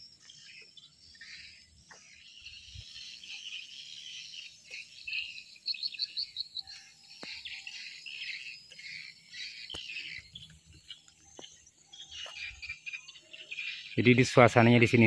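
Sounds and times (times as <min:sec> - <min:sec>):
birds chirping and calling: 0:00.0 - 0:15.0
high insect drone: 0:00.0 - 0:15.0.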